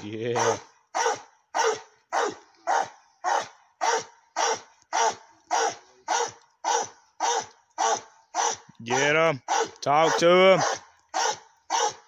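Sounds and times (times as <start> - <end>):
dog barking: 0.3 - 12.0.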